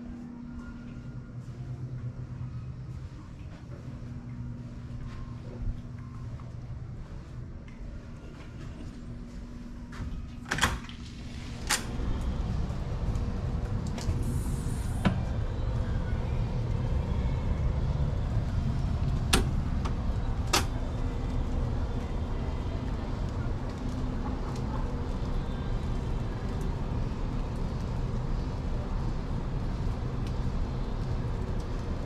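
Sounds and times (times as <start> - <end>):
steady low rumble: 0.0 - 9.9, 11.0 - 32.0.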